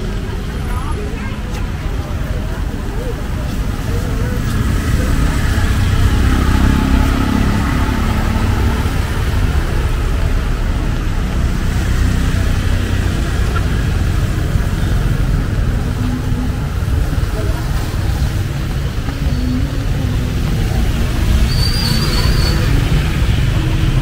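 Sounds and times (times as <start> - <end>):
traffic passing on wet road: 0.0 - 24.0.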